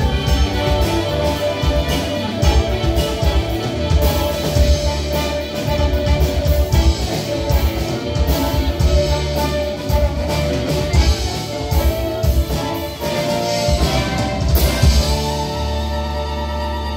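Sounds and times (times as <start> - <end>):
bass: 0.0 - 16.9
drum kit beat: 0.0 - 16.9
saxophone melody: 0.0 - 16.9.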